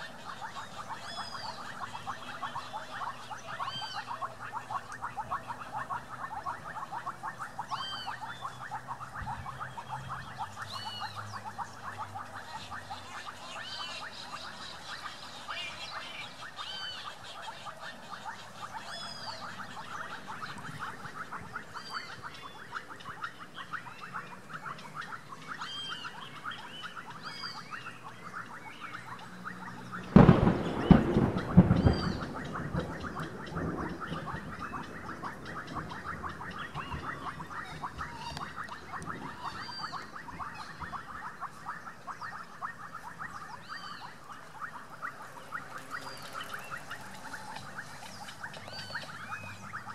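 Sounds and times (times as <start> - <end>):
birds chirping: 0.0 - 49.9
dense chatter of animal calls: 0.0 - 49.9.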